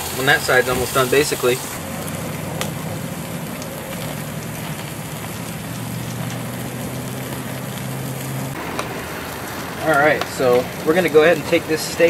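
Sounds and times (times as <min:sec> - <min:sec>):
steak sizzling on a grill: 0:00.0 - 0:12.0.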